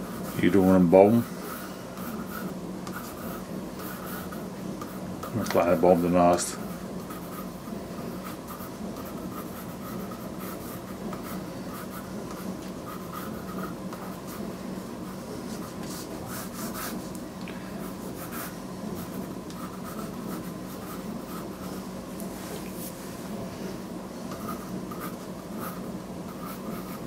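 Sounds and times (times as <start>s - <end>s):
pencil scratching on paper: 0.0s - 17.1s, 17.8s - 23.0s, 24.2s - 27.0s
steady low hum: 0.0s - 27.0s.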